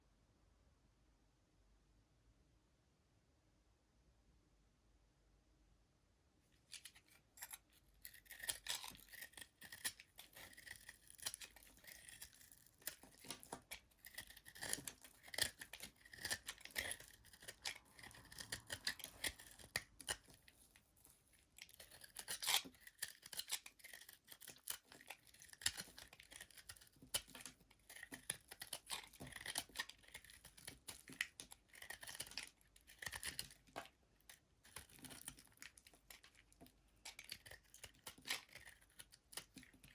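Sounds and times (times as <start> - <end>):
blade cutting soap: 6.6 - 39.9.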